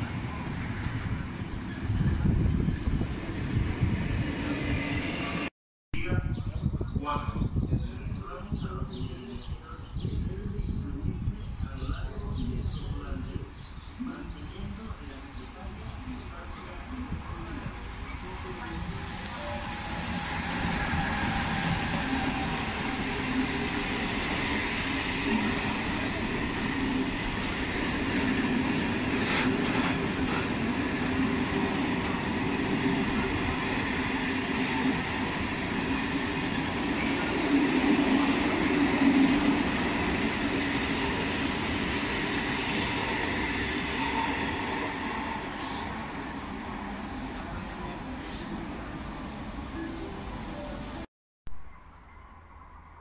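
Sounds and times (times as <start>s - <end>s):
freight train passing: 0.0s - 5.5s, 8.2s - 53.0s.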